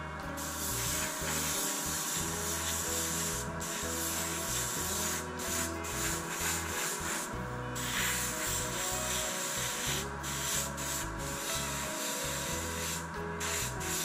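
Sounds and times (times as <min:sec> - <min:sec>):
background music: 0:00.0 - 0:14.0
airbrush spraying hiss: 0:00.3 - 0:14.0.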